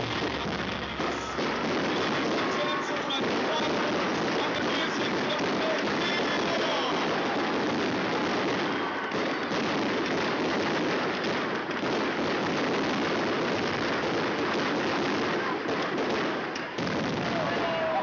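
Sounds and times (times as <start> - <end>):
fireworks bangs and crackle: 0.0 - 18.0.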